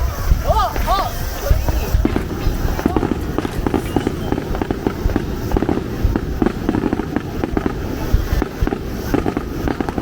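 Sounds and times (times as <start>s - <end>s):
fireworks booms: 0.0s - 10.0s
fireworks crackling: 0.0s - 10.0s.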